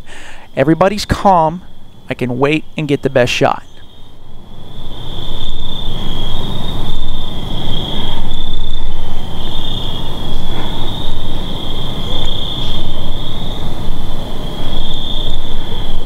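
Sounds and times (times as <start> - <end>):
crickets chirping: 0.0 - 16.0
low rumbling noise: 0.0 - 16.0.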